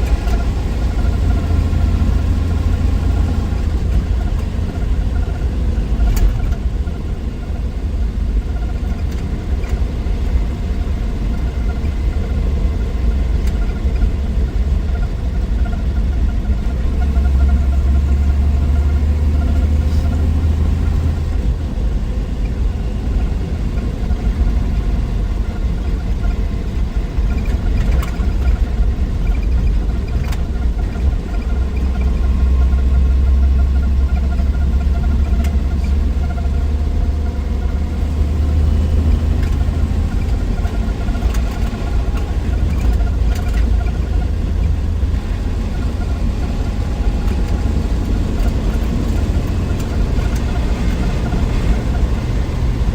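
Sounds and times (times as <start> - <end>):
car engine running while driving: 0.0 - 52.9.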